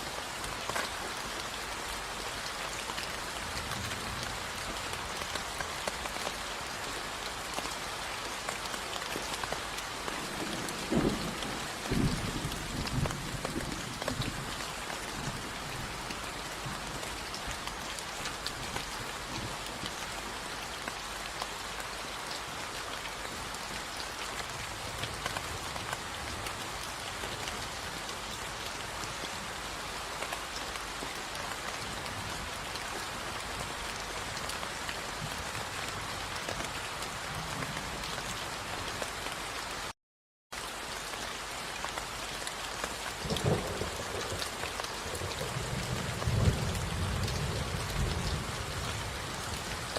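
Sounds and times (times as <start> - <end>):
steady rain: 0.0 - 49.9.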